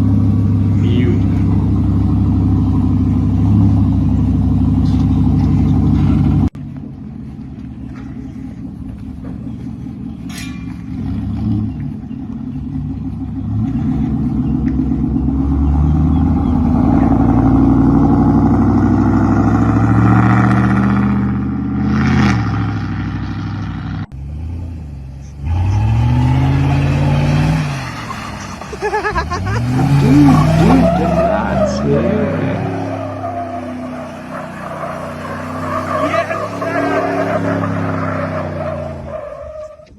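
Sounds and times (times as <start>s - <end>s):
truck engine revving: 0.0s - 6.6s, 7.6s - 39.9s
loud pickup truck exhaust: 0.0s - 39.9s.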